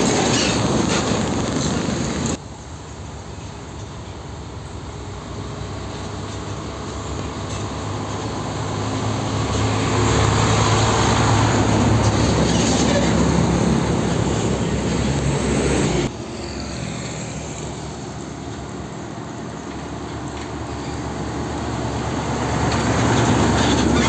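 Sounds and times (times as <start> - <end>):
truck engine approaching: 0.0 - 24.0
truck diesel engine passing: 4.2 - 24.0.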